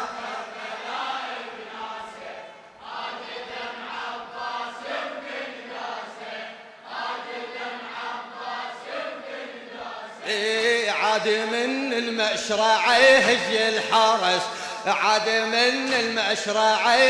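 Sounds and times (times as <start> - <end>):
congregation chanting in unison: 0.0 - 17.0.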